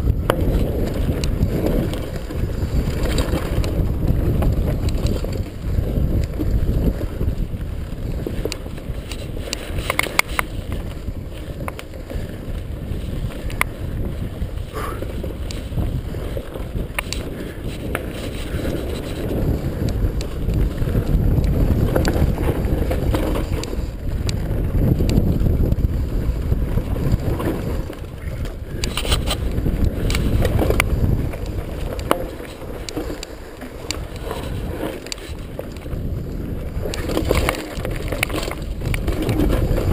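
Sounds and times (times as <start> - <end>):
bike rattling and knocking: 0.0 - 39.9
wind buffeting microphone: 0.0 - 39.9.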